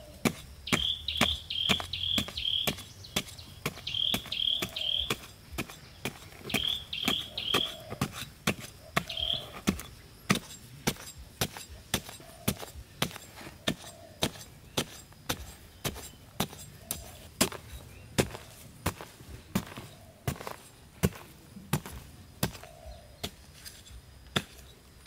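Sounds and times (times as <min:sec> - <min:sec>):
wood being chopped: 0:00.2 - 0:23.4.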